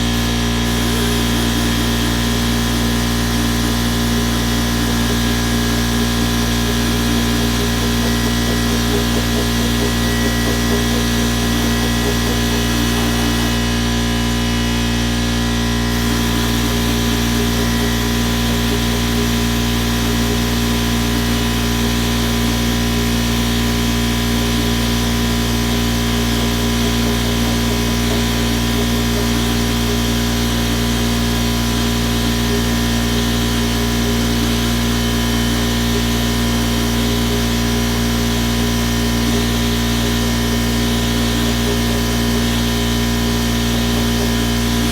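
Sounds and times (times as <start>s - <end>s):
compressed-air machine running: 0.0s - 44.9s.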